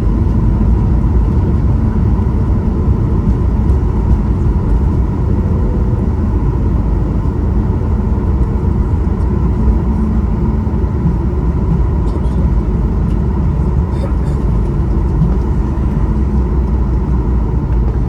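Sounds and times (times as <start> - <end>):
airplane cabin engine rumble: 0.0 - 18.0
faint steady whine: 0.0 - 18.0.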